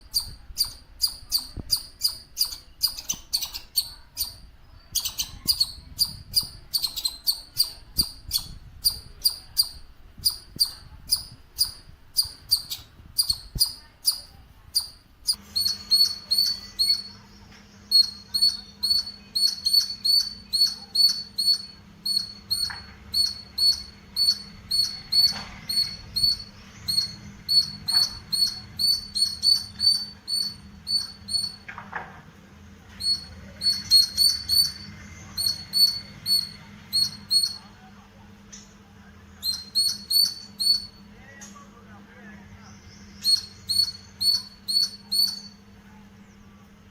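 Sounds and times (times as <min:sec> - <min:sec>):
squirrel chirping: 0:00.0 - 0:31.7, 0:33.0 - 0:37.8, 0:39.4 - 0:41.1, 0:42.8 - 0:45.7
faint steady hum: 0:00.0 - 0:46.9.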